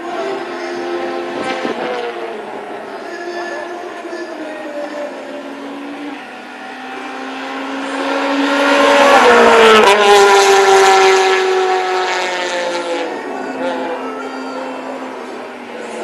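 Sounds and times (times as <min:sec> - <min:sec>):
racing engine passing by: 0:00.0 - 0:16.0.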